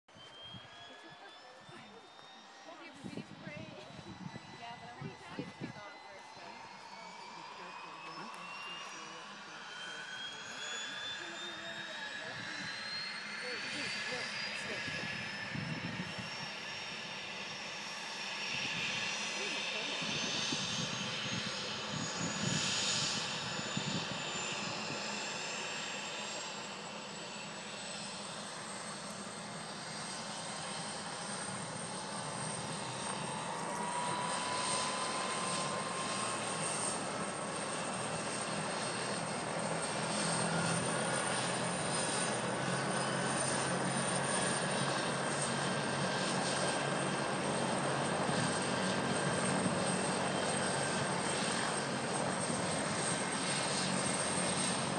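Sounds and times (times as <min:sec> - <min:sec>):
helicopter rotor noise: 0:00.1 - 0:54.9
high turbine whine: 0:00.1 - 0:54.9.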